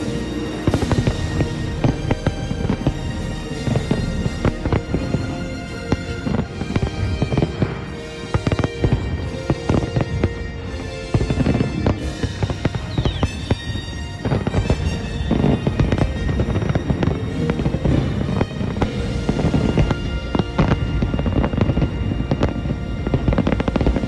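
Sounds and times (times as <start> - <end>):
fireworks bursting: 0.0 - 24.0
music playing: 0.0 - 24.0.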